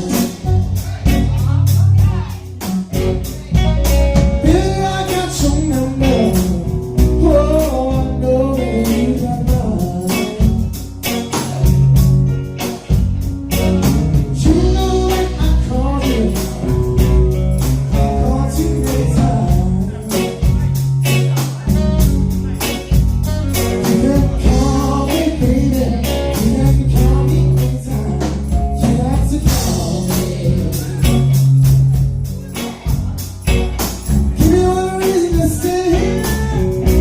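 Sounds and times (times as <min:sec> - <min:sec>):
person singing with band: 0:00.0 - 0:12.0, 0:13.6 - 0:23.0, 0:23.6 - 0:31.7, 0:32.5 - 0:37.0.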